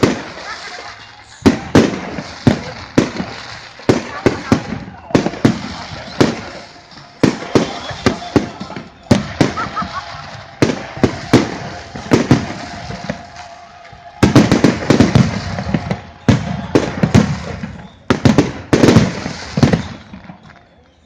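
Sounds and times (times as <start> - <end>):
fireworks bangs and crackle: 0.0 - 21.0.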